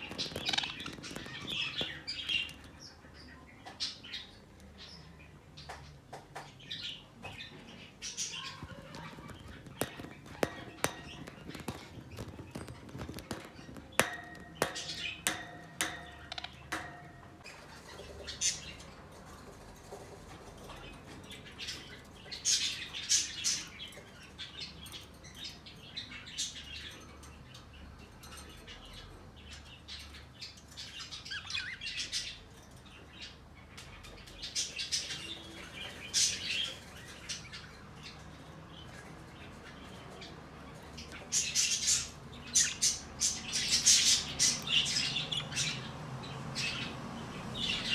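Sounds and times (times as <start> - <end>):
bird chirping: 0.0 - 18.9, 20.6 - 47.9.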